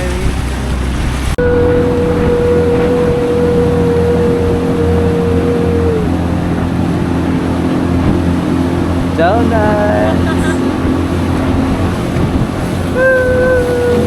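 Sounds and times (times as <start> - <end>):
jet boat engine hum: 0.0 - 14.0
steady engine whine: 0.0 - 14.0.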